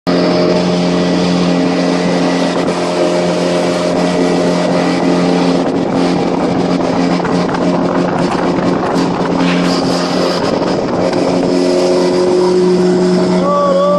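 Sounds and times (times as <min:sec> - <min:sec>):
outboard motor running: 0:00.1 - 0:13.9
rushing water noise: 0:00.1 - 0:13.9.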